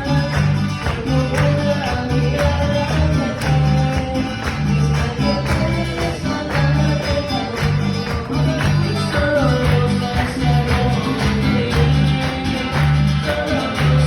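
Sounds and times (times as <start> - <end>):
guitar: 0.0 - 14.0
upbeat latin-style band song: 0.0 - 14.0.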